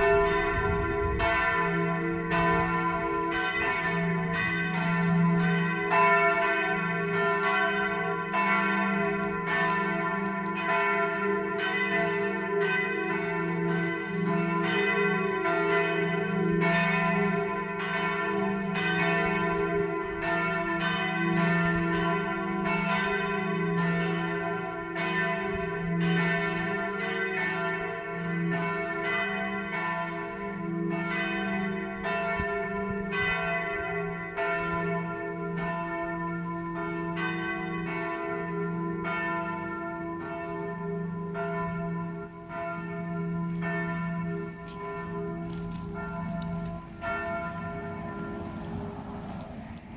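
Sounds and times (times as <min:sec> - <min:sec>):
bells ringing in a peal: 0:00.0 - 0:49.9.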